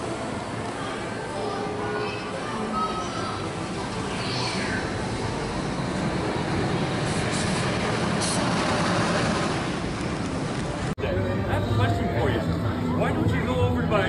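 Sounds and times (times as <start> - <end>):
roller coaster train rushing past: 0.0 - 14.0.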